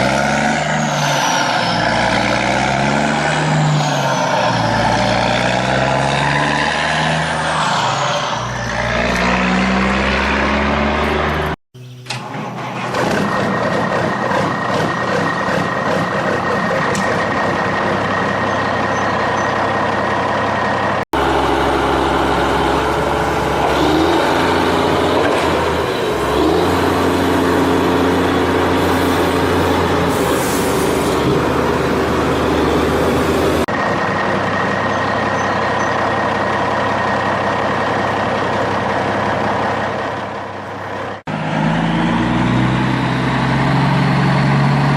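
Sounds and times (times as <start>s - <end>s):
truck engine revving: 0.0s - 44.9s.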